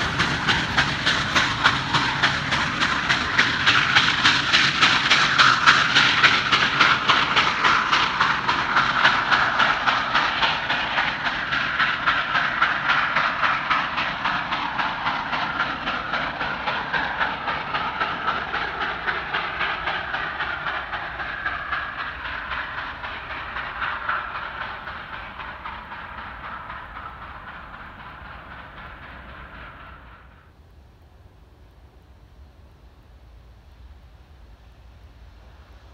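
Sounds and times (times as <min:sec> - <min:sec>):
steam locomotive chuffing: 0:00.0 - 0:30.6
train rumble: 0:00.0 - 0:35.9.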